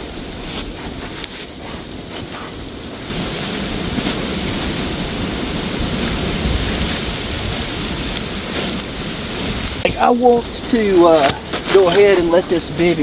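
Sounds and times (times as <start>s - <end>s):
strong wind through woods: 0.0s - 13.0s
wind buffeting microphone: 0.0s - 13.0s.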